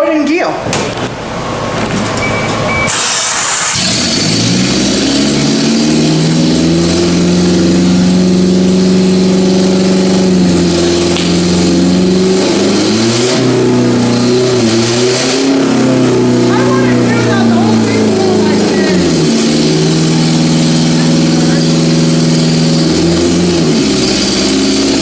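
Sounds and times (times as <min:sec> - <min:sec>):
car engine starting and revving: 0:00.6 - 0:25.0.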